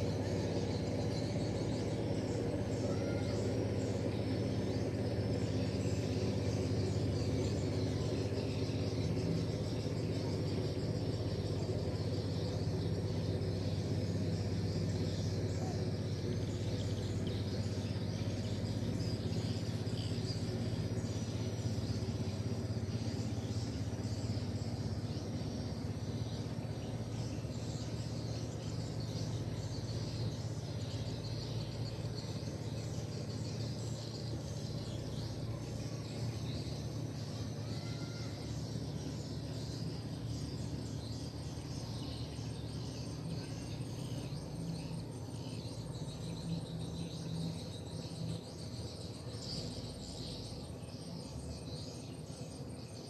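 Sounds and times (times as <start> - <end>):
birds chirping: 0.0 - 53.0
insects chirping: 0.0 - 53.0
steady low hum: 0.0 - 53.0.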